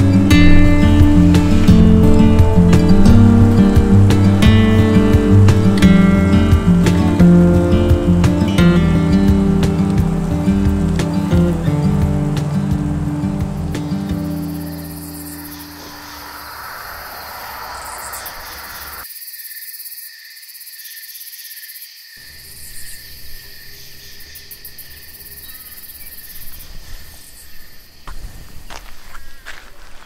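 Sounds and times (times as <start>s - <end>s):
insect chirps pulsing: 0.0s - 30.0s
insects trilling: 0.0s - 30.0s.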